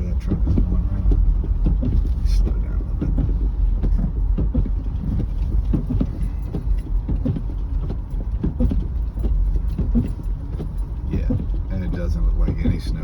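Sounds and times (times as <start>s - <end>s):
car driving on snow: 0.0s - 13.0s.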